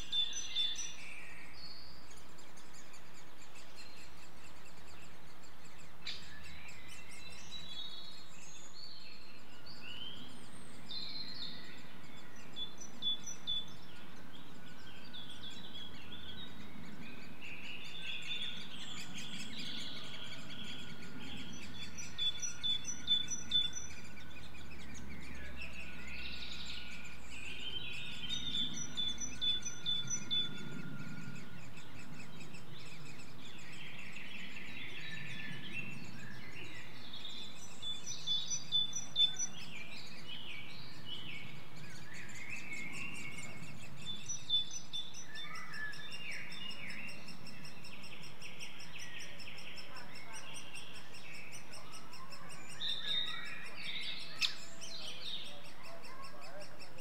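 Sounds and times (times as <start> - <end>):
other birds calling: 0.0 - 57.0
steady outdoor hiss: 0.0 - 57.0.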